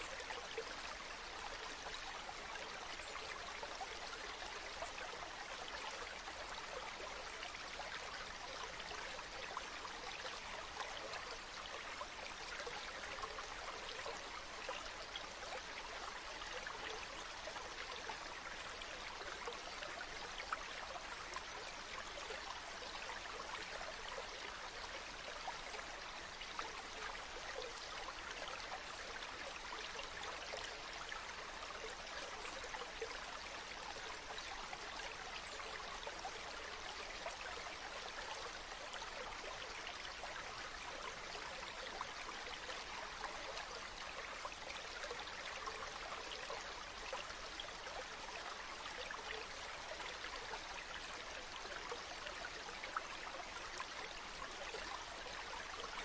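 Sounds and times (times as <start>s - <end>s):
river water flowing: 0.0s - 56.0s
small splashes and trickles: 0.0s - 56.0s.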